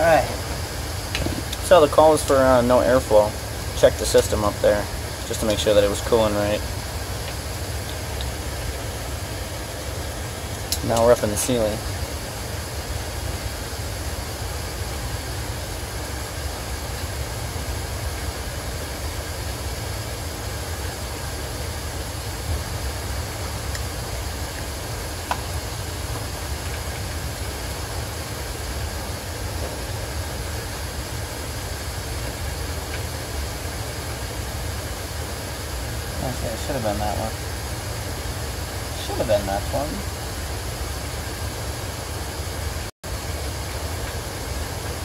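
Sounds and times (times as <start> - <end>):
air moving through ductwork: 0.0 - 45.0
hvac system humming: 0.0 - 45.0.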